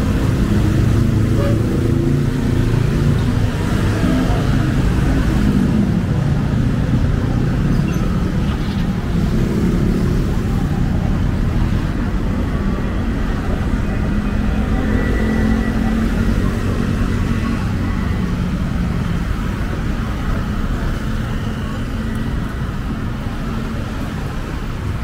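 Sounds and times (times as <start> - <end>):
car and motorbike traffic passing: 0.0 - 25.0.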